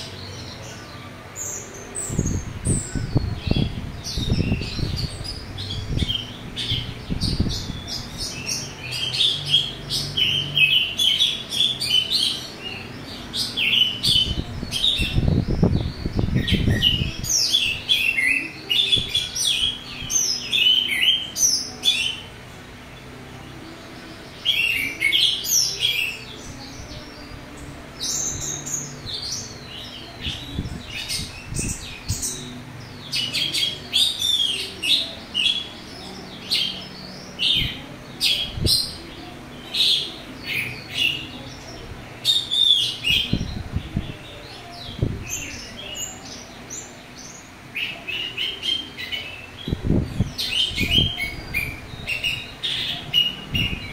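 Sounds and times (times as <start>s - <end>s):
thrush singing: 0.0s - 53.9s.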